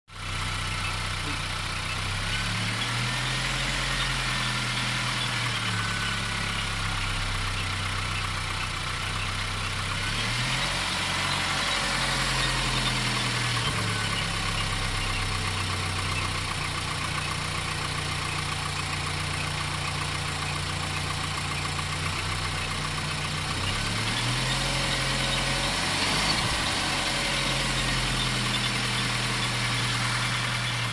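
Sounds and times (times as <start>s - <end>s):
car engine idling and revving: 0.1s - 30.9s.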